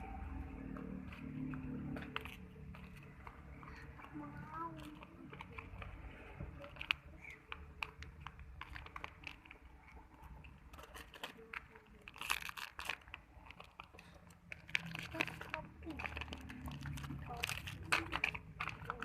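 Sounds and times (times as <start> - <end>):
crinkling: 0.2 - 19.0.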